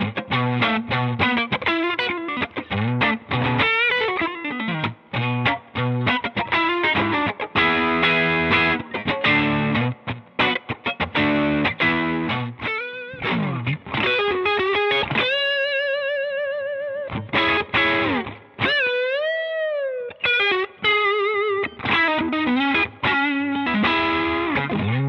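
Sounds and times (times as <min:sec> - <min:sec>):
overdriven electric guitar lead: 0:00.0 - 0:25.0.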